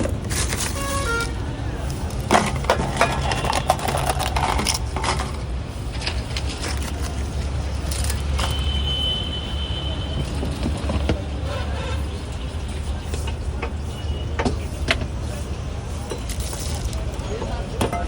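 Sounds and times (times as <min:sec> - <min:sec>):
low traffic rumble: 0:00.0 - 0:18.0.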